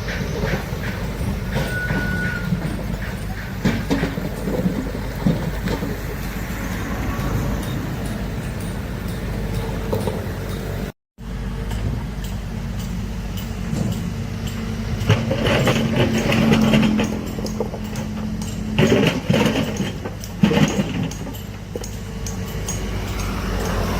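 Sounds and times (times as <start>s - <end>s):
diesel machinery running: 0.0s - 23.9s.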